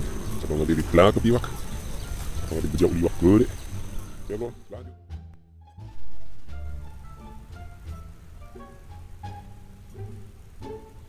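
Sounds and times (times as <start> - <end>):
string music: 0.0 - 11.0.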